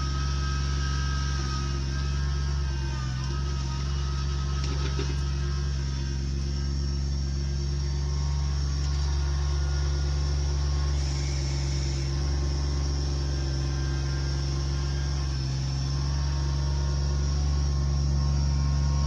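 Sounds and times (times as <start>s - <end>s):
machine engine droning: 0.0s - 19.0s.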